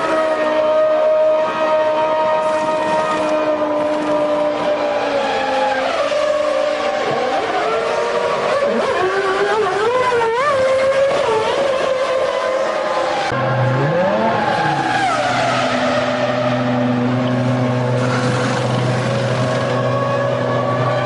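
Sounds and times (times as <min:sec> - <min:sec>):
engine revving: 0:00.0 - 0:21.0
racing car engines running: 0:00.0 - 0:21.0.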